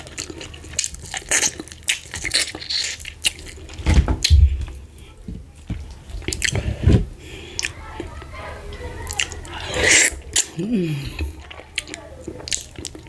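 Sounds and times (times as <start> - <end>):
wet chewing and squishing: 0.0 - 4.8, 5.8 - 6.6, 7.5 - 13.0.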